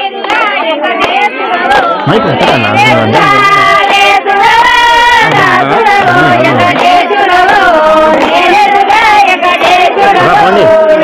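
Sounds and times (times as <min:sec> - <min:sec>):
rhythmic hand-clapping: 0:00.0 - 0:11.0
women singing folk song: 0:00.0 - 0:11.0.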